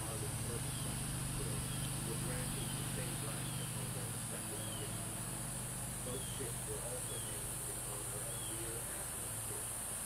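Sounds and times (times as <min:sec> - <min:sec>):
low hum: 0:00.0 - 0:09.8
high insect drone: 0:00.0 - 0:10.0.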